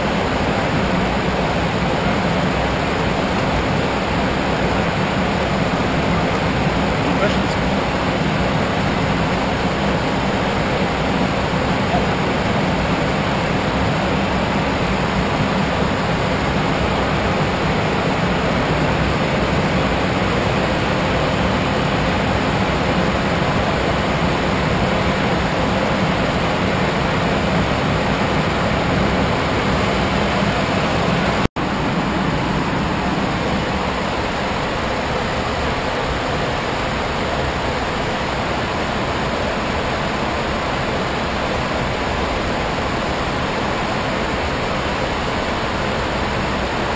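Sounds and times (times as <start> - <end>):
jet cockpit airflow and engine noise: 0.0 - 46.9.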